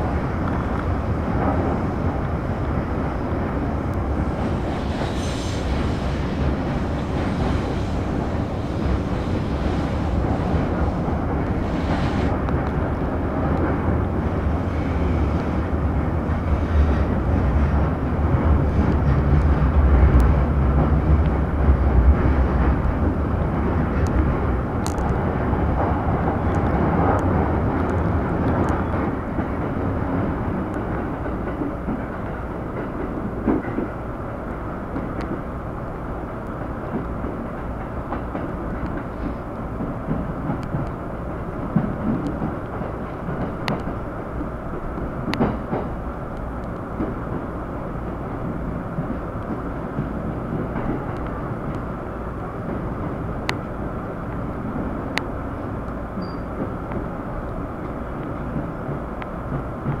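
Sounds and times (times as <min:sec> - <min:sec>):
train rumble: 0:00.0 - 1:00.0.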